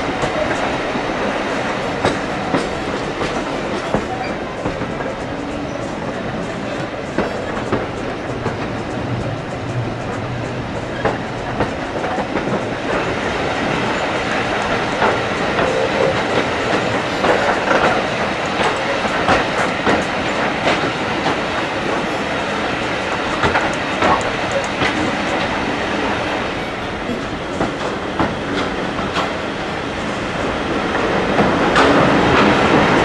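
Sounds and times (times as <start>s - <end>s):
steam train rumbling: 0.0s - 33.0s.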